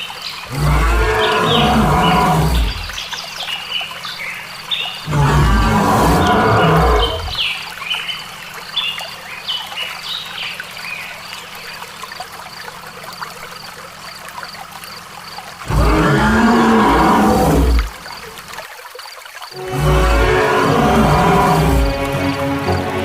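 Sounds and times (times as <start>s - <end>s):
water trickling in canal: 0.0s - 23.0s.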